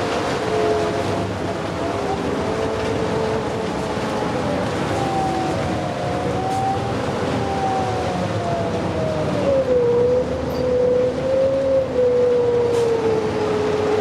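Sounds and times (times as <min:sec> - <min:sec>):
bus drivetrain whine: 0:00.0 - 0:14.0
constant rushing noise: 0:00.0 - 0:14.0.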